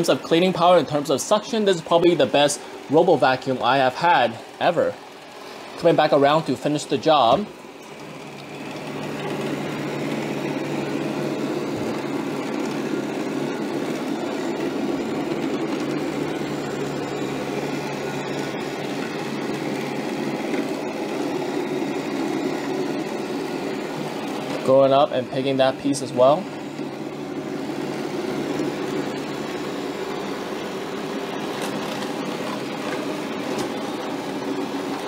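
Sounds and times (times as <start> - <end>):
robot vacuum drone: 0.0 - 35.0.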